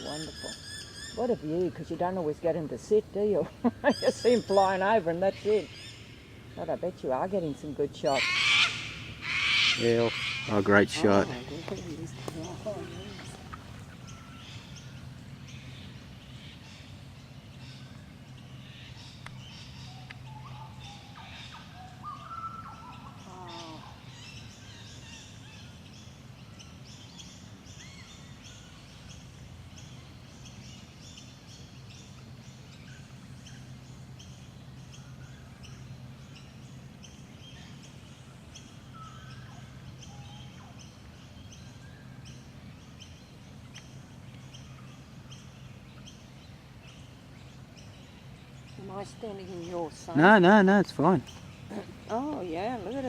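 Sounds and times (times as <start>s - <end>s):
birds whistling and chirping: 0.0s - 53.0s
steady low hum: 0.0s - 53.0s.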